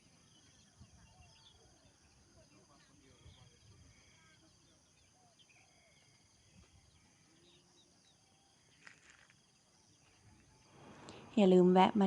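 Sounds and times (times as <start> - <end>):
soft bird chirps: 0.0 - 11.4.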